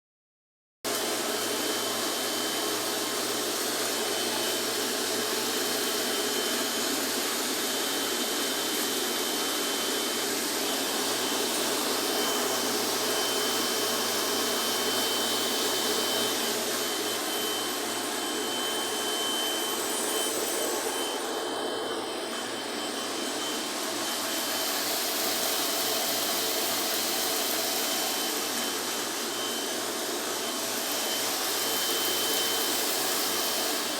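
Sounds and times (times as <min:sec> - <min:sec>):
thin high whine: 0:00.9 - 0:33.9
machine hiss: 0:01.0 - 0:33.9.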